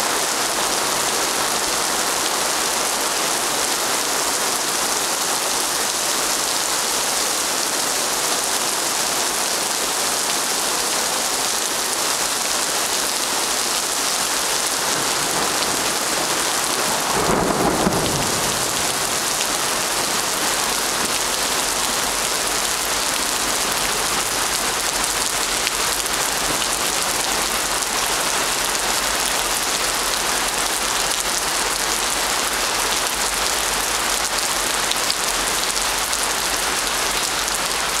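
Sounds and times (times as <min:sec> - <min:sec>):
heavy rain on paving stones: 0:00.0 - 0:38.0.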